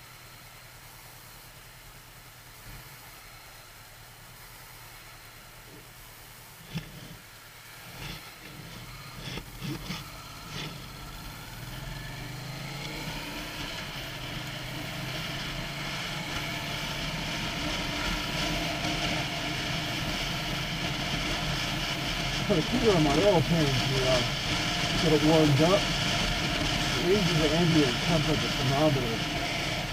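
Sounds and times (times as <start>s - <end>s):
wind and road noise: 0.0s - 29.9s
motorcycle engine accelerating: 4.4s - 29.9s.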